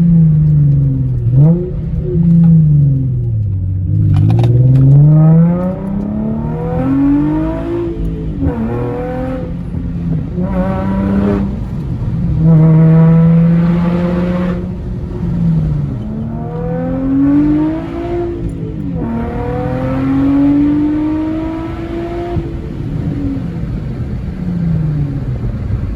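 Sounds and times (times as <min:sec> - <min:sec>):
car exhaust revving: 0:00.0 - 0:25.9.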